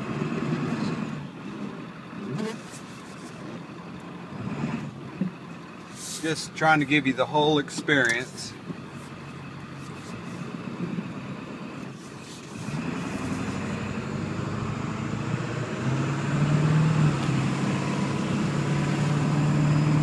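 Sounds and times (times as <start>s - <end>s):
diesel truck engine accelerating: 0.0s - 20.0s.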